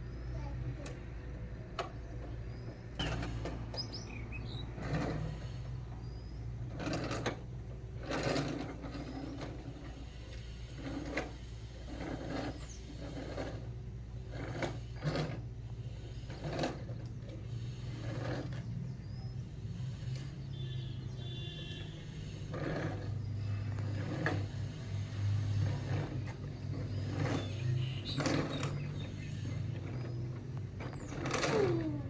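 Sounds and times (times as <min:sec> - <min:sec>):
toy car rattling and whirring: 0:00.0 - 0:32.0.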